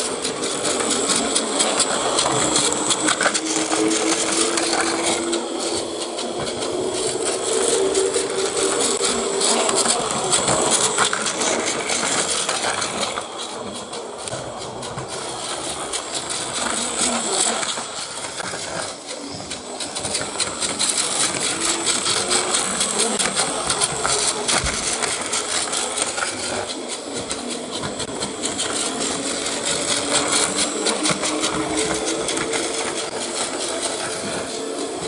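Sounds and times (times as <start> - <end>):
rapid clicking of wheels on track: 0.0 - 35.0
toy train motor whirring: 0.0 - 35.0.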